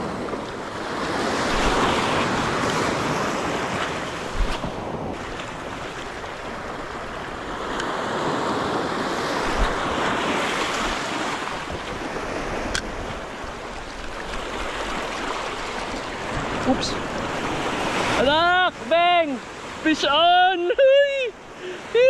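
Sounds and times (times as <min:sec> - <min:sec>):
wind buffeting microphone: 0:00.0 - 0:18.2
surf breaking over rocks: 0:00.0 - 0:20.2.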